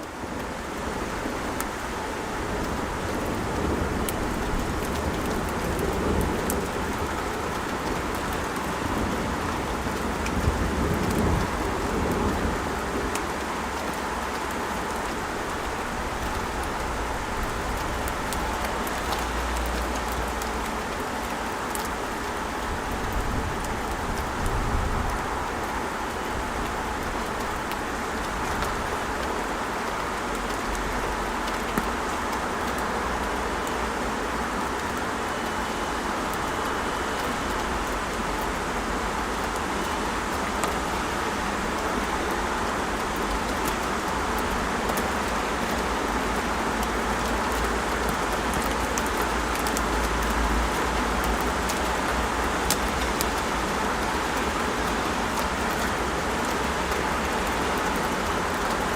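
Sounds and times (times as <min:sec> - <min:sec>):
raindrops ticking: 0:00.0 - 0:58.9.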